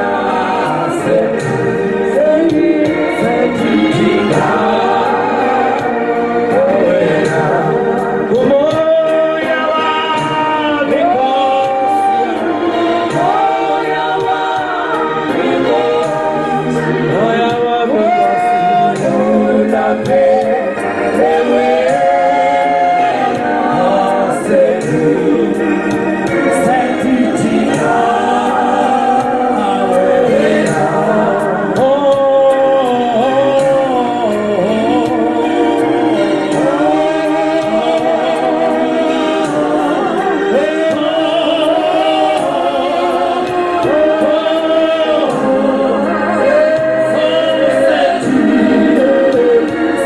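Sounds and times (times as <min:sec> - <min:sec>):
choir singing gospel: 0:00.0 - 0:50.0.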